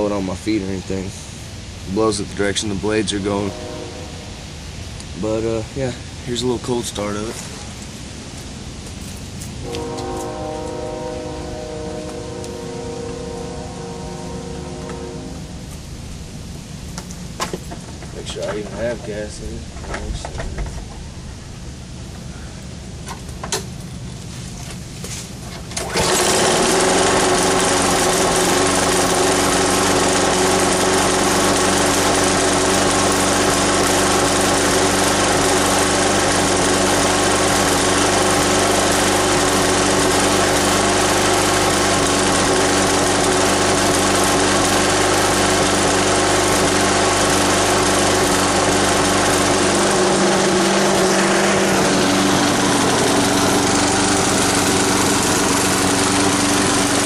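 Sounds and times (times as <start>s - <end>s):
lawn mower engine running: 7.3s - 57.0s.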